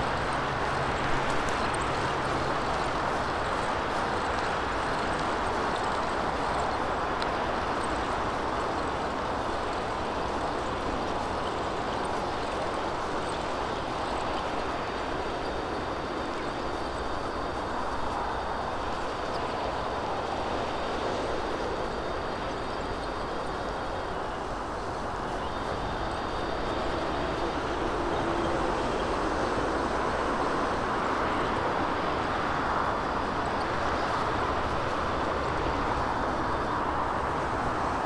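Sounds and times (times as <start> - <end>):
road traffic roar: 0.0 - 38.0.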